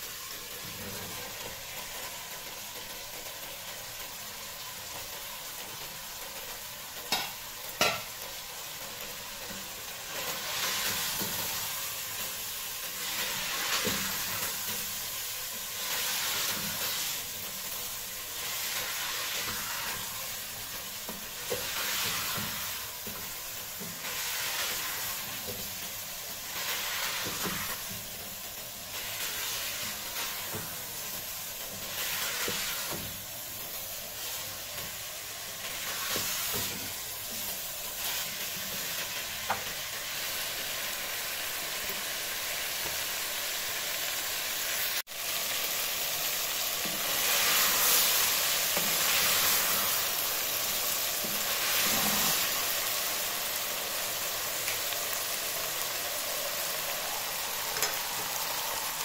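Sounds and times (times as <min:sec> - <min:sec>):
vegetables sizzling in a pot: 0:00.0 - 0:59.0.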